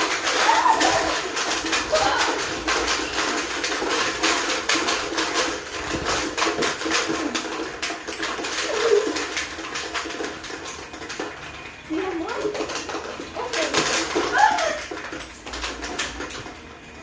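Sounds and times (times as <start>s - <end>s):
plastic balls rattling in containers: 0.0s - 17.0s.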